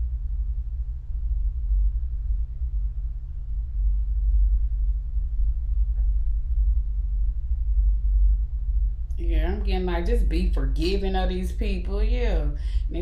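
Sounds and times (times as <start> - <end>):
deep rumble: 0.0 - 13.0.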